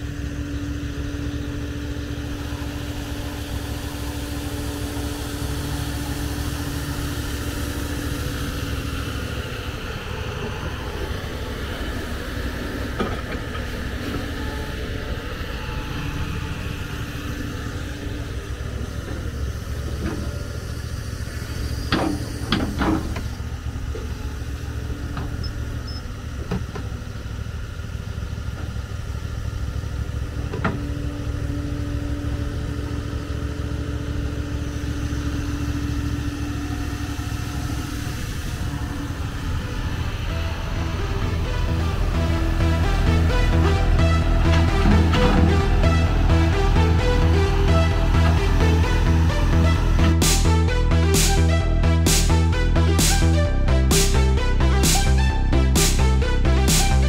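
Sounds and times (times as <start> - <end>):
excavator diesel engine running: 0.0 - 57.0
steady whine: 0.0 - 57.0.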